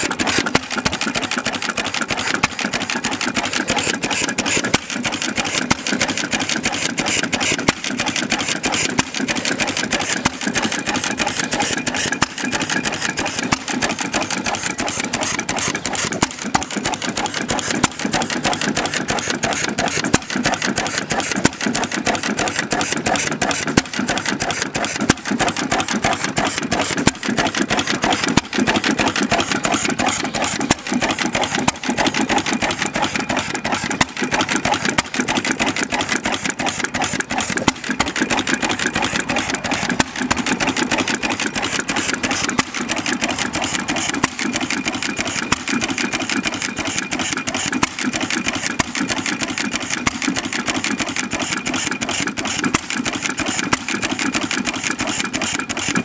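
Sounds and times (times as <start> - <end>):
stationary petrol engine running: 0.0 - 56.0.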